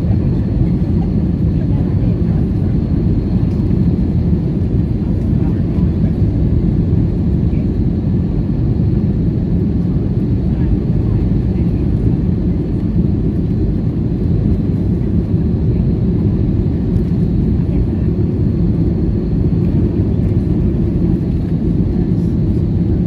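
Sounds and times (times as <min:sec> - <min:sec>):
aircraft cabin rumble: 0:00.0 - 0:23.0.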